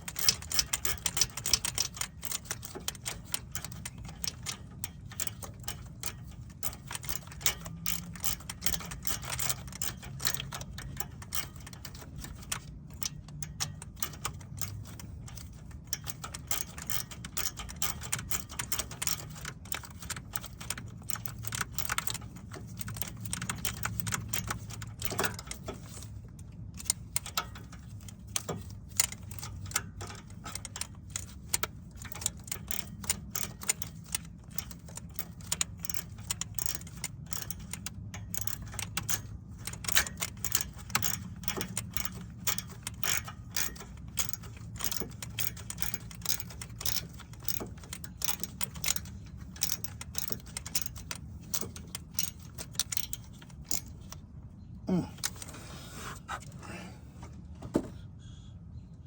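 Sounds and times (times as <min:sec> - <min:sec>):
ratchet wrench clicking: 0:00.0 - 0:54.3, 0:54.9 - 0:55.8.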